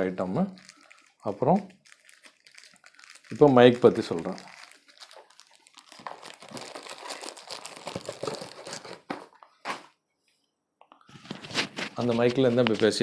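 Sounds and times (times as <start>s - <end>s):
packaging crinkling: 0.0s - 9.9s, 11.1s - 13.0s.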